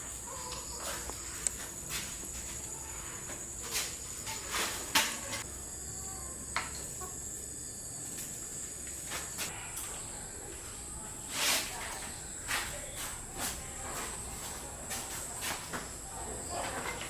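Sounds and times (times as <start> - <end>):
insects chirring: 0.0 - 17.0
rustles: 0.0 - 17.0.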